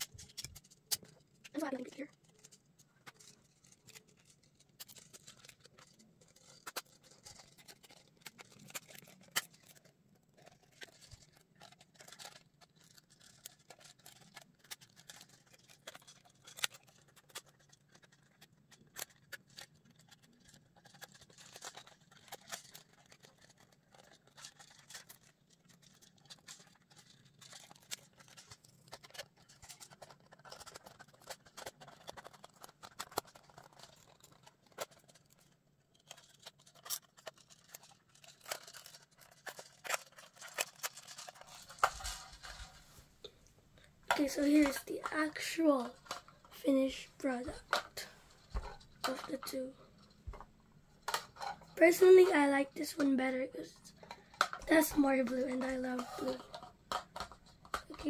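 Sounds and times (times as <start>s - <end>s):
plastic pieces clicking: 0.0s - 58.0s.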